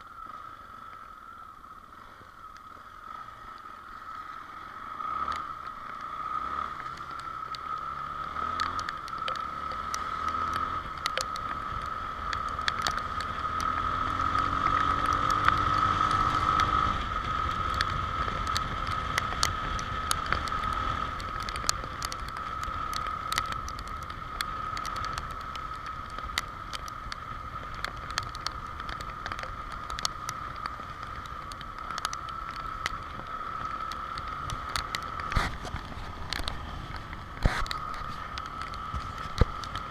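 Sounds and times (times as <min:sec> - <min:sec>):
motorcycle engine: 0:00.0 - 0:39.9
rain ticking on microphone: 0:00.0 - 0:39.9.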